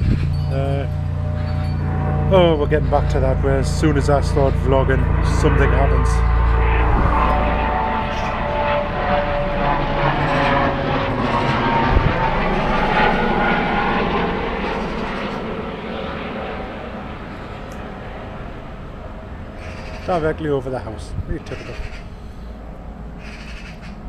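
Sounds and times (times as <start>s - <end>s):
plane flying overhead: 0.0s - 24.0s.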